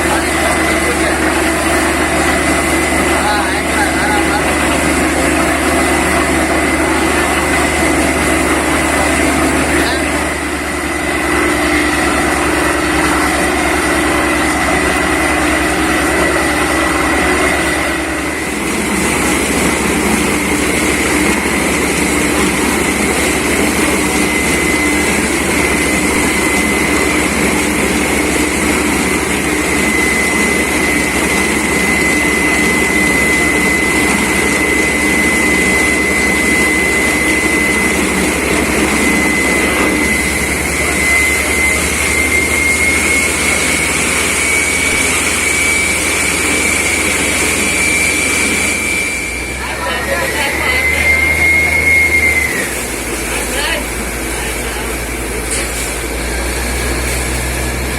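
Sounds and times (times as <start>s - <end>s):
air compressor whine: 0.0s - 57.9s
droning engine: 0.0s - 57.9s.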